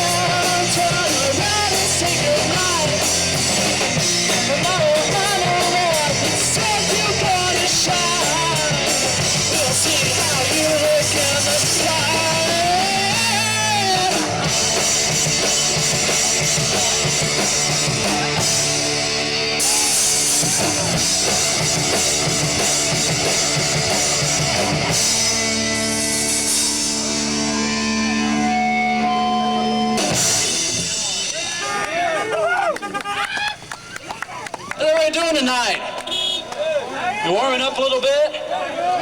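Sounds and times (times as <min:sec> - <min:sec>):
drum kit: 0:00.0 - 0:31.8
electric guitars: 0:00.0 - 0:32.0
rock band playing: 0:00.0 - 0:32.5.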